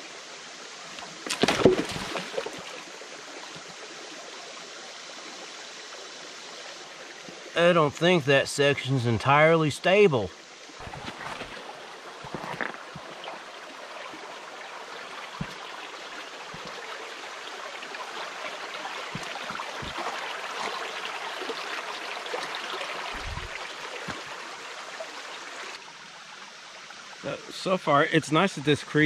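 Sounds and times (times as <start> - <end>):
creek running over rocks: 0.0 - 29.0.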